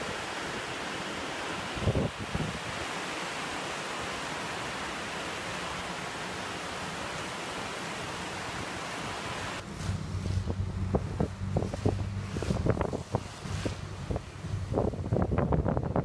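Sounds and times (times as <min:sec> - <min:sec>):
heavy rain on pavement: 0:00.0 - 0:14.7.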